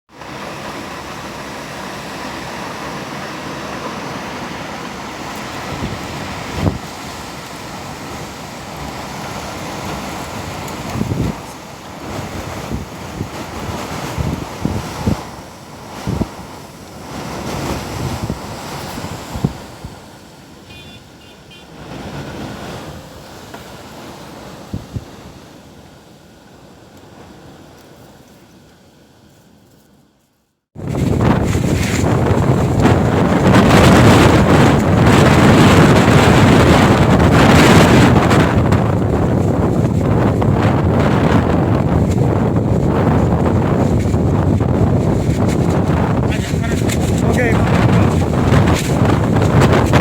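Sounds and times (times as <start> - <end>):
strong gusty wind: 0.1 - 27.8, 30.8 - 50.0
wind buffeting microphone: 0.2 - 25.5, 30.8 - 50.0.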